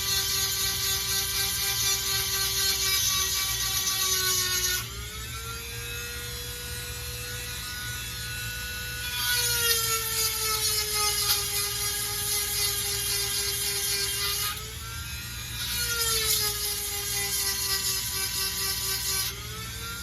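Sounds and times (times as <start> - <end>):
rotary tool motor whine: 0.0 - 20.0.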